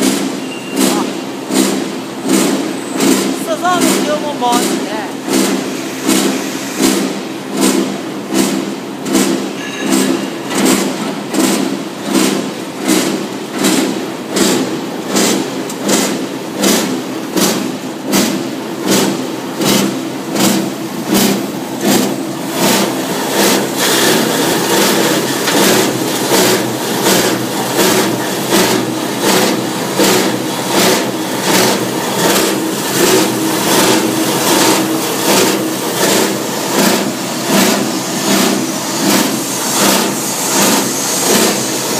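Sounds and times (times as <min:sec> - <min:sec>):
wire granulator machine drone: 0:00.0 - 0:41.9.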